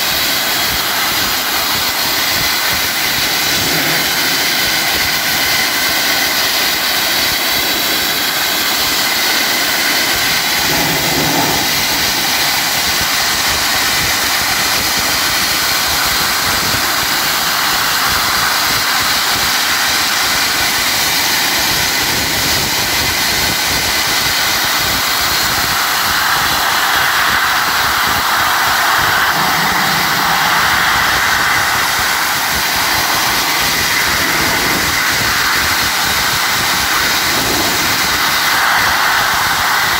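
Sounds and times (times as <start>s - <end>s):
abrasive blasting nozzle hissing: 0.0s - 39.9s.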